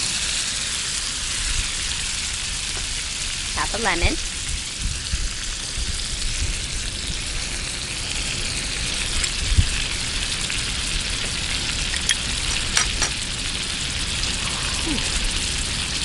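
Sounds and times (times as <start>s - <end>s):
fish sizzling in a skillet: 0.0s - 16.0s.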